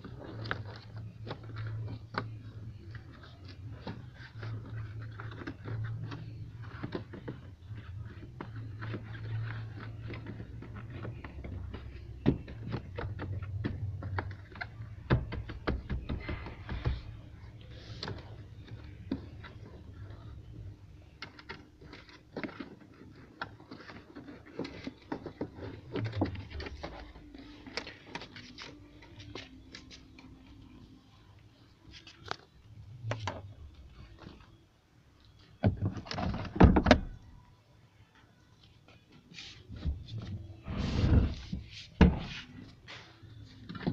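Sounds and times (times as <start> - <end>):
knocks and scraping: 0.0 - 30.7, 38.8 - 43.9.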